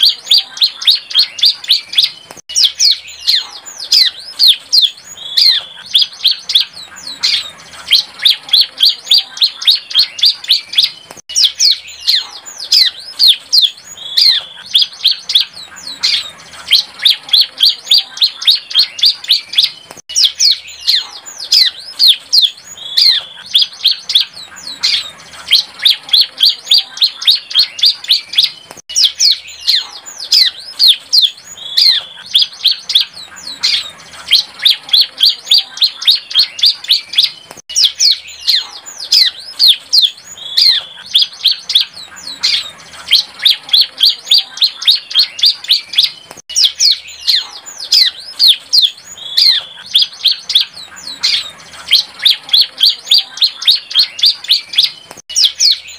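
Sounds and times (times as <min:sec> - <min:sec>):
bird singing sharp chirps: 0:00.0 - 0:55.9.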